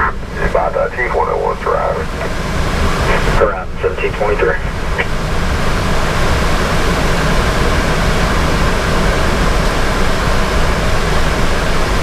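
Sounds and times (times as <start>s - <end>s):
rushing noise: 0.0s - 12.0s.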